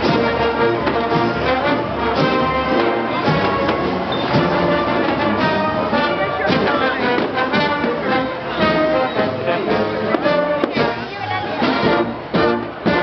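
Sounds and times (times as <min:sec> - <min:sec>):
brass marching band playing: 0:00.0 - 0:13.0
drum beats: 0:00.0 - 0:13.0.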